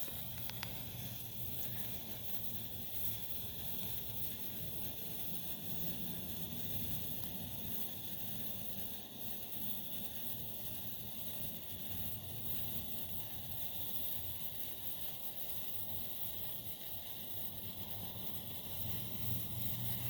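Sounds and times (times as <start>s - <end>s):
sparkler hissing: 0.0s - 20.0s.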